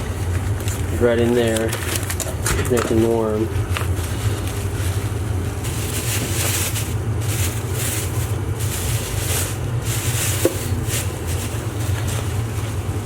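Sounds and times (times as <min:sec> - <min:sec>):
steady low hum: 0:00.0 - 0:13.0
packaging rustling: 0:00.2 - 0:13.0.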